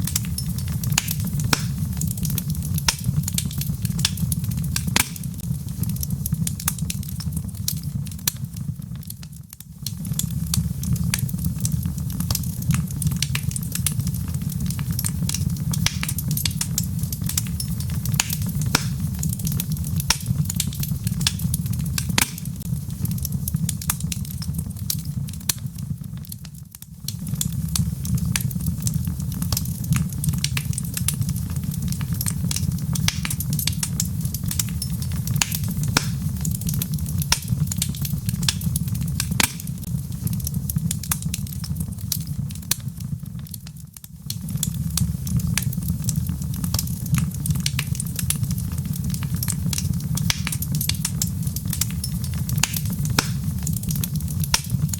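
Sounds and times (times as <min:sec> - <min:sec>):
burning wood crackling and popping: 0:00.0 - 0:54.9
fire flames rumbling: 0:00.0 - 0:54.9.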